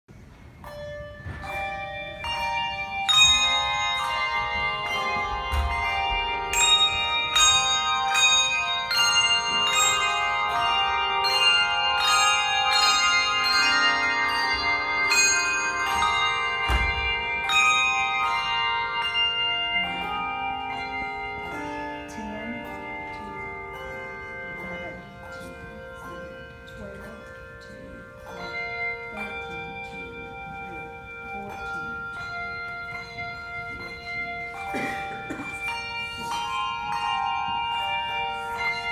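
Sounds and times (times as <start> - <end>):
church bells ringing: 0.2 - 38.9.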